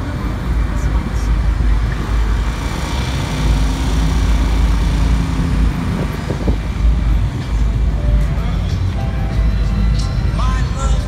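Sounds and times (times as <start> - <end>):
road traffic rumble: 0.0 - 11.0
steady engine hum: 0.0 - 11.0.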